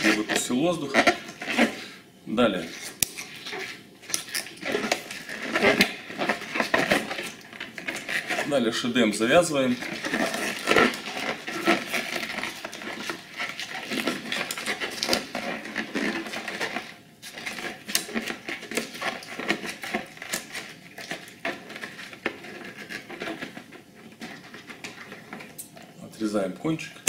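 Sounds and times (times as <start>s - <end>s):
balloon latex rubbing and clicking: 2.5s - 8.6s, 9.4s - 25.8s.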